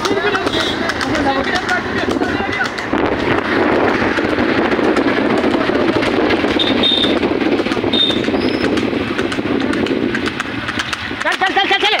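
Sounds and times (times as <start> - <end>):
vehicles rumbling on road: 0.0 - 12.0.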